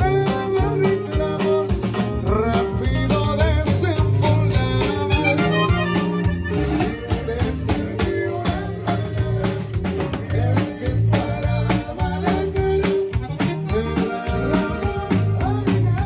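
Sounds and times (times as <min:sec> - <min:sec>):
person singing: 0:00.0 - 0:16.0
plucked guitar music: 0:00.0 - 0:16.0.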